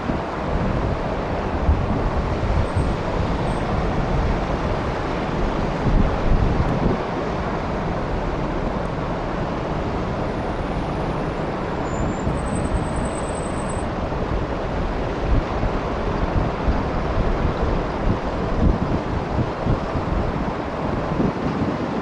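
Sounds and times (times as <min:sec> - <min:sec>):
road traffic rushing: 0:00.0 - 0:22.0
wind buffeting microphone: 0:00.0 - 0:22.0.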